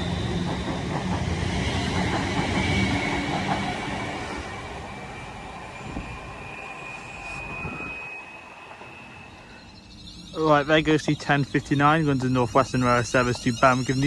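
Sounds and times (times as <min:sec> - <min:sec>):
electric train rumble: 0:00.0 - 0:14.0
thin high train whine: 0:00.0 - 0:14.0.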